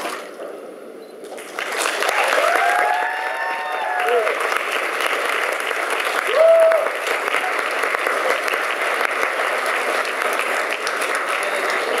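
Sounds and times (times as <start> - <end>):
crowd applauding: 1.4 - 12.0.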